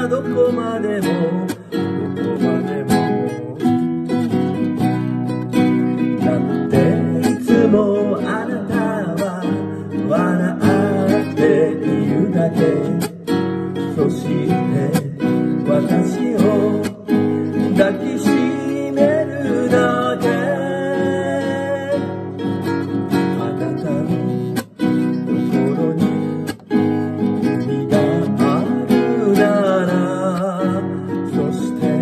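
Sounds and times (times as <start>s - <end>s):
classical guitar strumming chords: 0.0s - 32.0s
man singing: 0.0s - 32.0s.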